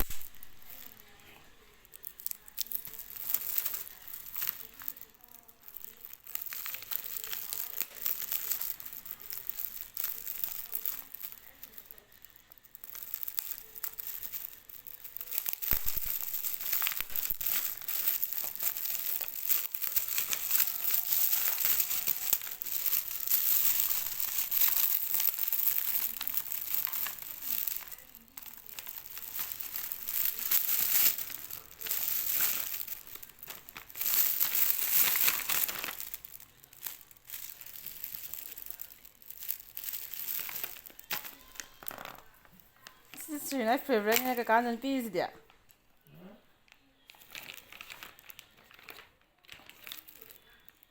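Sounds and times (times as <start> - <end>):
packaging crinkling: 0.0 - 45.1, 47.1 - 50.9.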